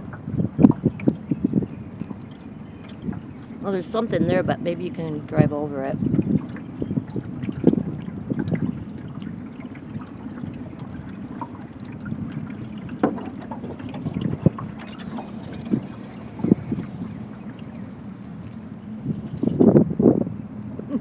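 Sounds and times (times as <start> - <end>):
boat engine low rumble: 0.0 - 21.0
water sloshing against hull: 0.0 - 21.0.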